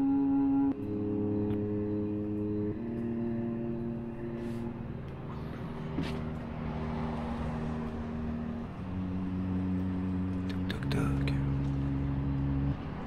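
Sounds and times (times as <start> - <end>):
droning background music chords: 0.0 - 13.0.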